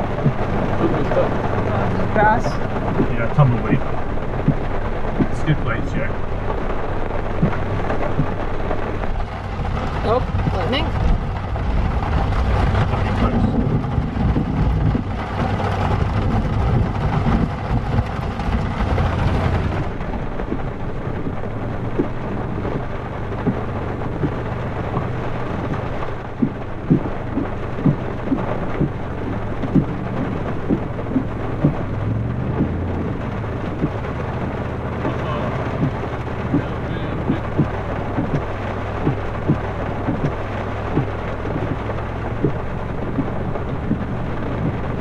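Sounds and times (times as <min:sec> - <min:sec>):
heavy rain: 0:00.0 - 0:45.0
low engine hum: 0:00.0 - 0:45.0
low rumble: 0:00.0 - 0:45.0
rain drumming on truck: 0:00.0 - 0:45.0.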